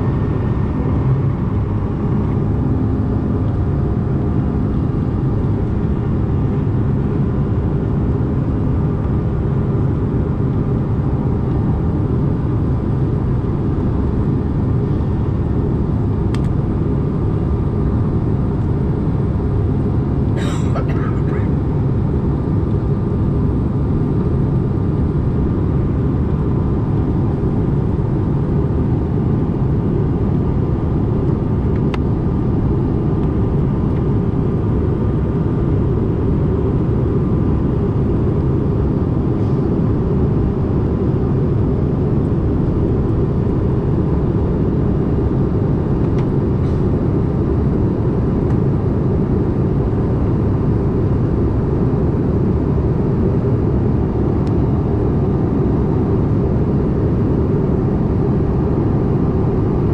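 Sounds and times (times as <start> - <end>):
jet cabin rumble: 0.0 - 59.9.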